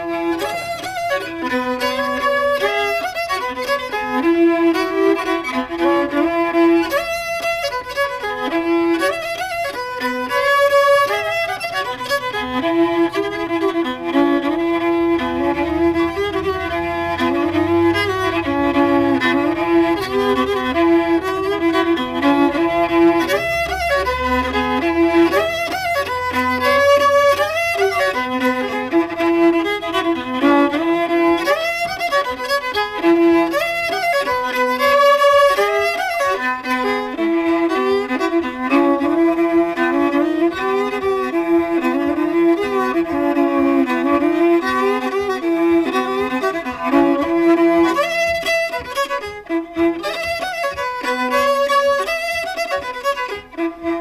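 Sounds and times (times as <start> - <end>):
fiddle playing a bowed tune: 0.0 - 54.0.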